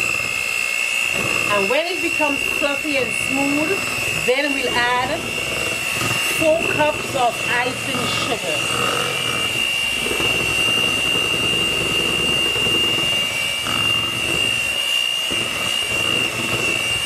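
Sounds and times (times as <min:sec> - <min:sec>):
electric mixer whining: 0:00.0 - 0:17.0.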